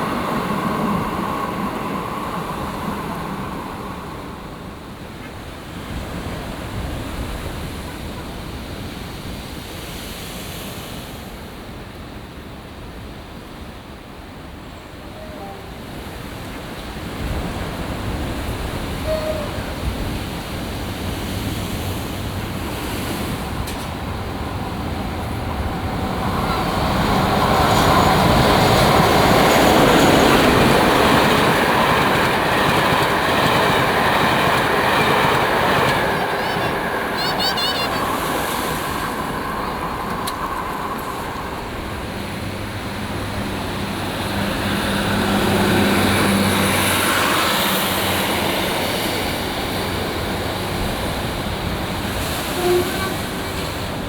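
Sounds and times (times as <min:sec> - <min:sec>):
diesel train passing: 0:00.0 - 0:54.0.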